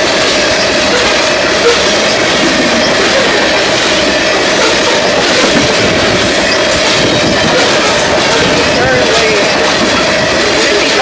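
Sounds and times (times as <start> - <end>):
steel wheels rumbling on rail: 0.0 - 11.0
wheels clacking over rail joints: 0.0 - 11.0.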